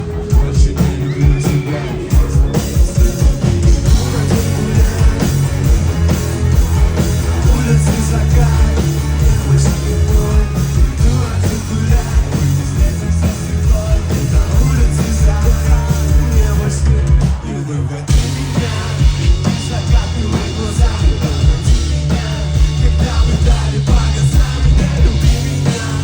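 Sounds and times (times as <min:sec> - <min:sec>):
live rock band playing: 0:00.0 - 0:26.0
person singing: 0:00.0 - 0:26.0.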